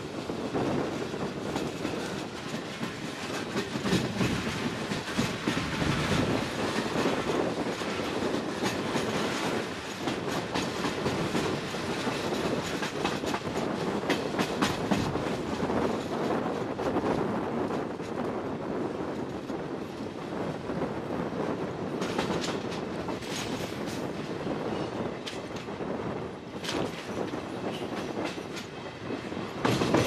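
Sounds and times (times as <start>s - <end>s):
train rumble: 0.0s - 30.0s
train wheels clattering: 0.3s - 17.0s, 21.9s - 30.0s.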